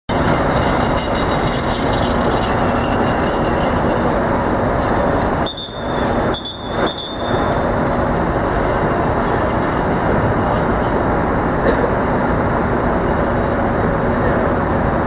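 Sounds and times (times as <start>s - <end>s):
city street din: 0.1s - 15.0s
faint high whine: 1.8s - 15.0s.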